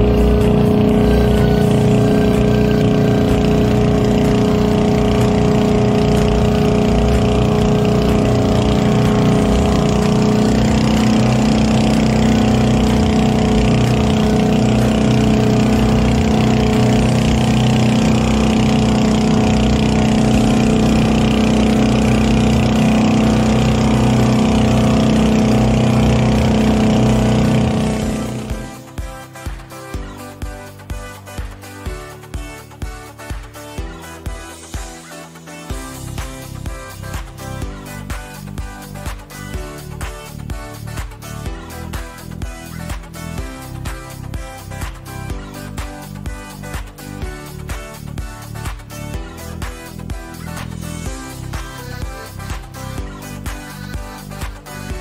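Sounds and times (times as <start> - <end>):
boat engine running: 0.0 - 35.0, 35.7 - 55.0
water splashing along hull: 0.0 - 35.0, 35.7 - 55.0.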